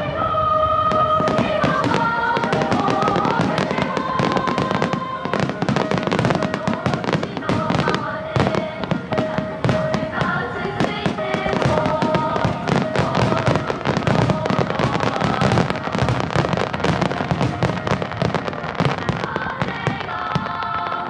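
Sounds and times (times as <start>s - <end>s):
music with held notes: 0.0s - 21.0s
firework shells bursting: 0.9s - 21.0s.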